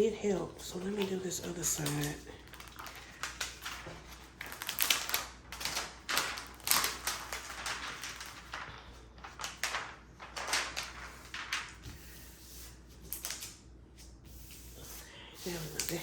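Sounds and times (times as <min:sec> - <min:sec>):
plastic film peeling and crinkling: 0:00.7 - 0:13.8, 0:15.4 - 0:16.0.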